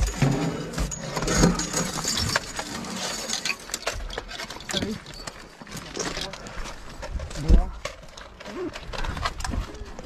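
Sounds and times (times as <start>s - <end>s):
metal gear clicking and clinking: 0.0s - 10.0s.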